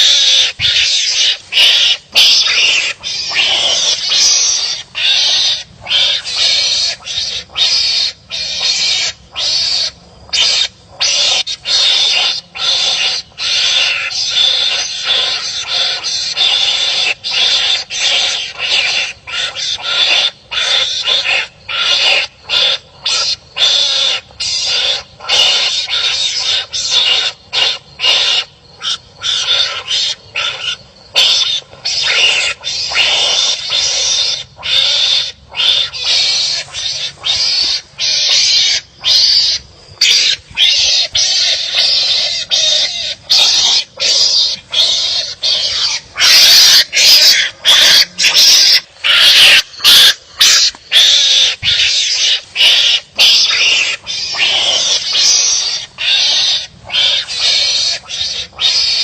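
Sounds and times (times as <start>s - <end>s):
animals barking harshly: 0.0s - 59.0s.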